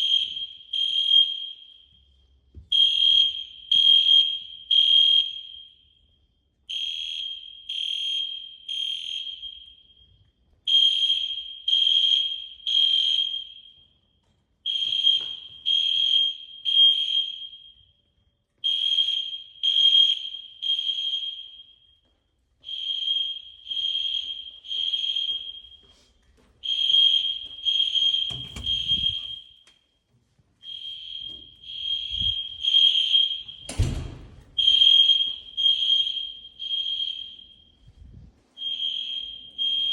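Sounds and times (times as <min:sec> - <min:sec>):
fire alarm pulsing high tone: 0:00.0 - 0:30.0, 0:30.6 - 0:39.9.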